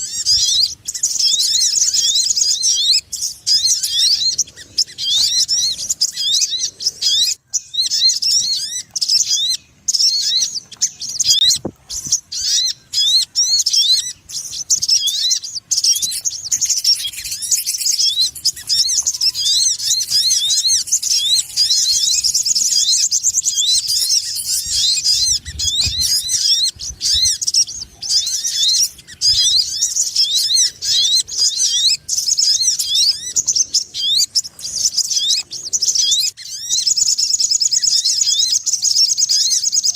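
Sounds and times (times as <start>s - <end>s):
sunbird chattering chirps: 0.0s - 39.9s.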